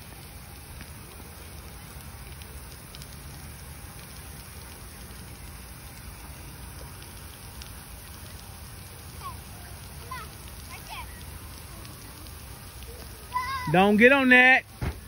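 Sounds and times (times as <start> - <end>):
water spraying and pattering: 0.0 - 15.0.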